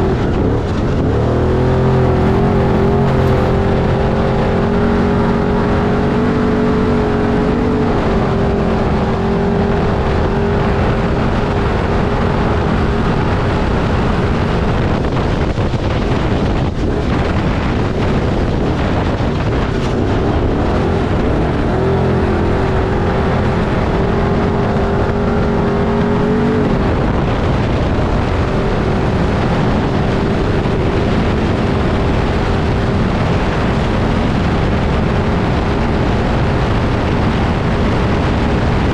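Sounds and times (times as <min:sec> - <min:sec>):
race vehicle engine running hard: 0:00.0 - 0:38.9
rushing noise: 0:00.0 - 0:38.9.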